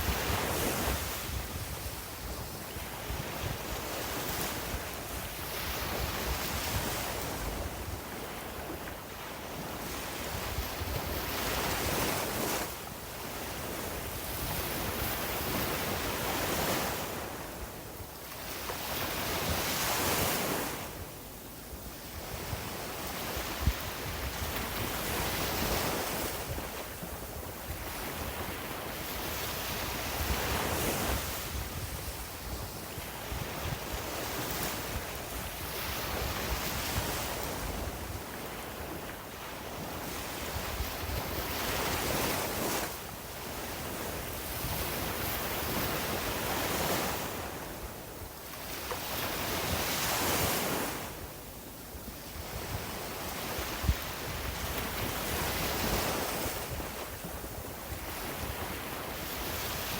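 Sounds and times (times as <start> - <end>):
wind rumbling on microphone: 0.0 - 51.4, 52.1 - 59.9.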